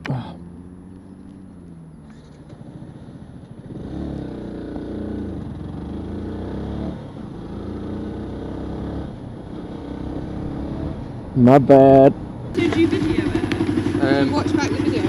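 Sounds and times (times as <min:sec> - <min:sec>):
motorcycle engine accelerating: 0:00.0 - 0:11.3, 0:11.9 - 0:15.0.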